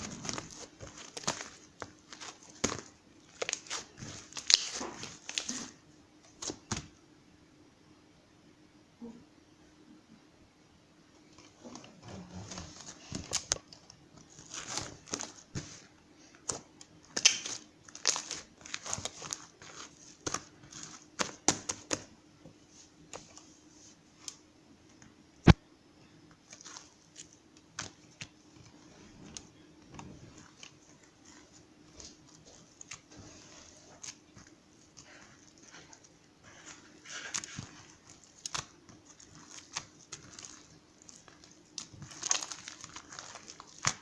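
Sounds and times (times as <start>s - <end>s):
crinkling and rustling: 0.0s - 7.0s, 11.2s - 44.0s.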